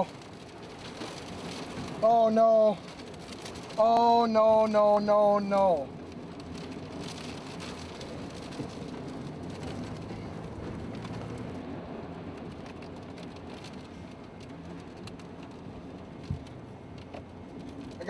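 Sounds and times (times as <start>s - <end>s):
rain: 0.0s - 18.0s
wind: 0.0s - 18.0s.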